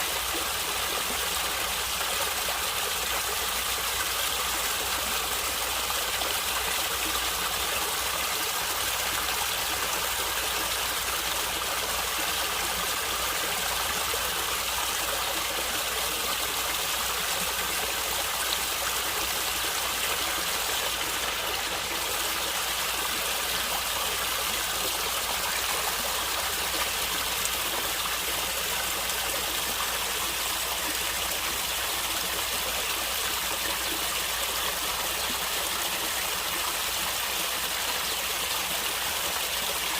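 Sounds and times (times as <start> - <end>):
stream running and gurgling: 0.0 - 39.9.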